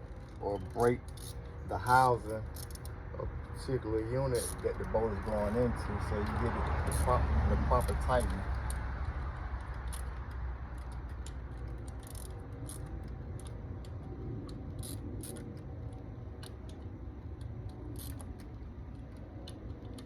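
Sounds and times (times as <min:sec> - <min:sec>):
steady low rumble: 0:00.0 - 0:20.0
hand ratchet clicking: 0:00.1 - 0:03.0, 0:04.1 - 0:07.2, 0:07.8 - 0:20.0.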